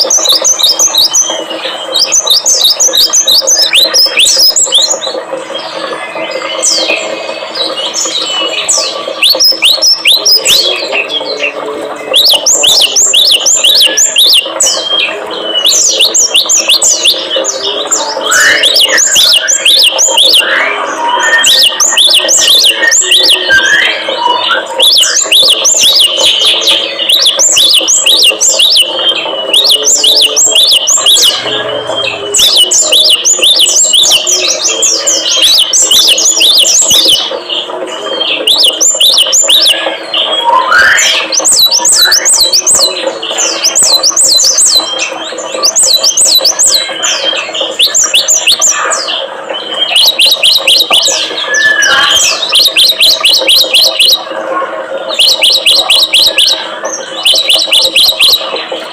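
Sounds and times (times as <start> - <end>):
small songbirds chirping: 0.0 - 54.3, 55.1 - 58.8.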